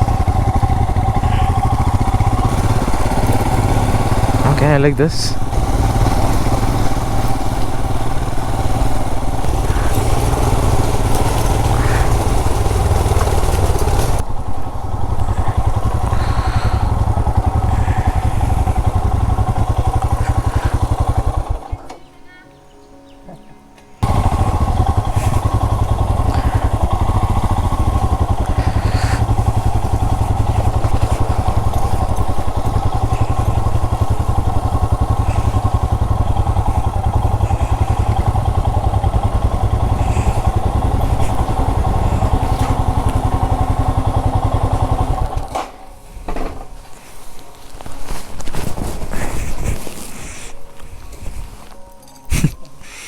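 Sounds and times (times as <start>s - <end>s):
motorcycle engine running: 0.0s - 21.9s, 24.0s - 52.8s.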